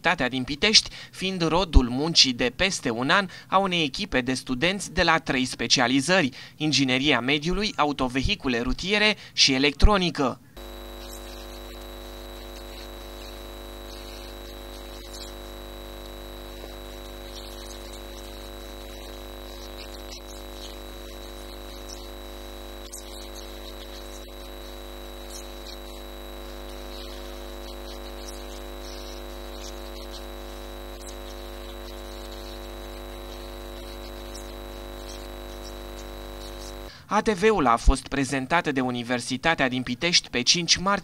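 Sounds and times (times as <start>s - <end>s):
steady electrical hum: 0.0s - 37.3s.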